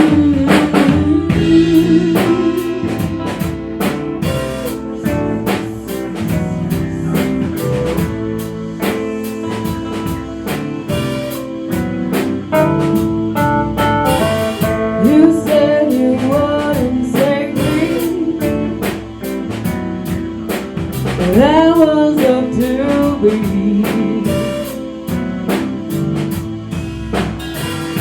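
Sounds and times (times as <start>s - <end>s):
drum kit beat: 0.0s - 28.0s
guitar: 0.0s - 28.0s.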